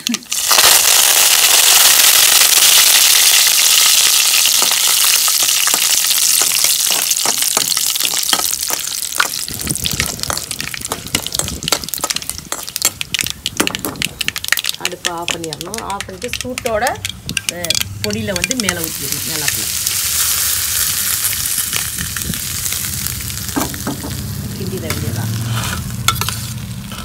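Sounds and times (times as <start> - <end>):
crackling and popping in oil: 0.0 - 27.0
leaves sizzling in hot oil: 0.0 - 27.0.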